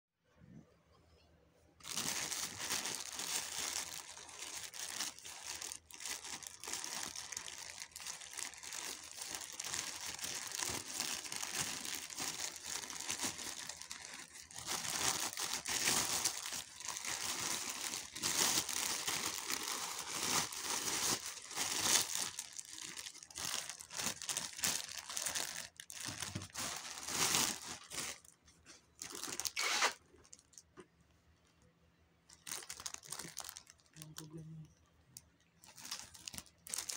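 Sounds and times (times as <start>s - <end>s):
plastic packaging crinkling: 1.8s - 30.8s, 32.3s - 34.4s, 35.2s - 36.9s.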